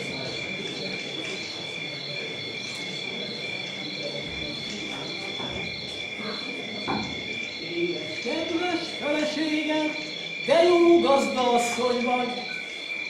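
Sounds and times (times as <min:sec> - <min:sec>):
crickets chirping: 0:00.0 - 0:13.0
low background noise: 0:00.0 - 0:13.0.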